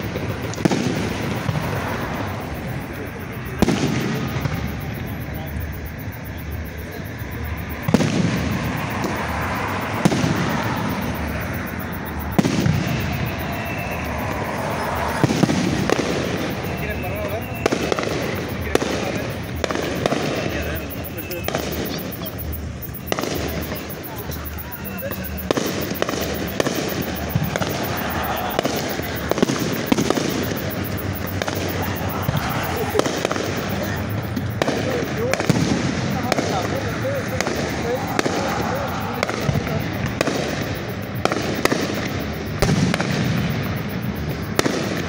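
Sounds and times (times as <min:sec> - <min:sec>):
firework shells bursting: 0:00.0 - 0:45.0
steady background noise: 0:00.0 - 0:45.0.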